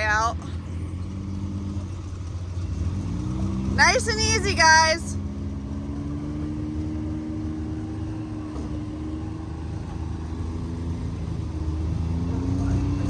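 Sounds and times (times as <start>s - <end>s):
vehicle engine running slowly: 0.0s - 13.0s.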